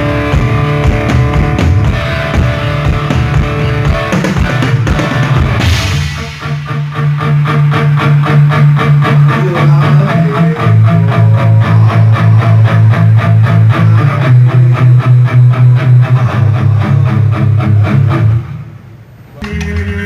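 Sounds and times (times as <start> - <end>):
bass guitar pulsing: 0.0 - 18.8
electric guitar: 0.0 - 20.0.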